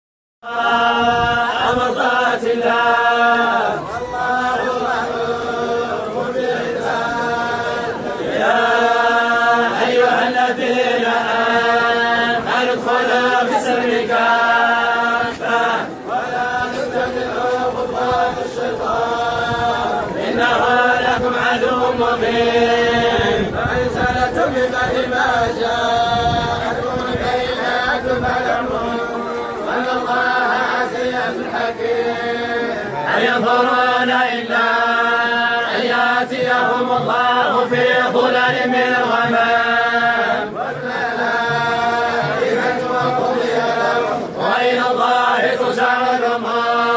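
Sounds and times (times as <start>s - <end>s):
men chanting in unison: 0.4s - 46.9s.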